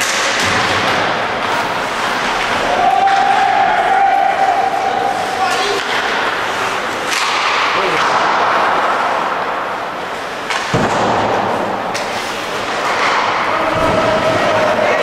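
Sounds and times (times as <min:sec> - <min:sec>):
sharp cracks of play on ice: 0:00.0 - 0:09.5, 0:10.4 - 0:14.5
arena crowd noise: 0:00.0 - 0:15.0.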